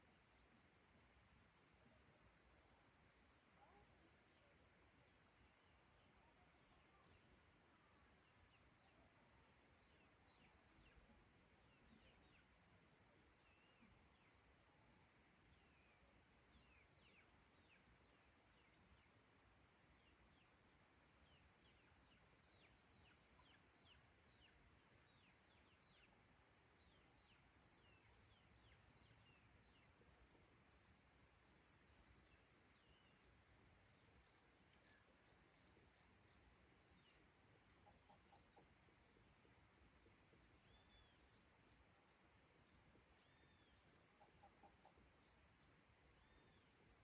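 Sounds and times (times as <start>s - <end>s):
high insect drone: 0.0s - 47.0s.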